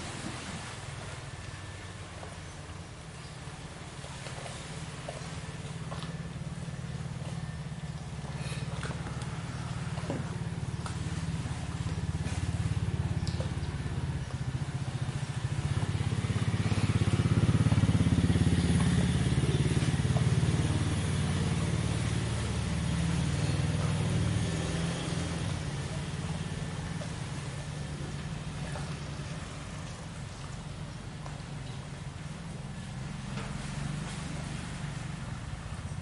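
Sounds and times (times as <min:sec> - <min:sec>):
engine pulsing rumble: 0:00.0 - 0:36.0.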